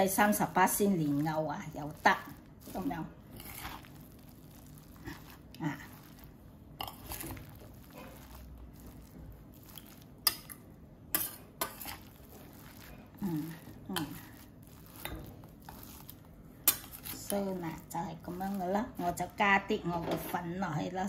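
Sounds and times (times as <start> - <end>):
spoon mashing sticky mixture: 0.0 - 19.6.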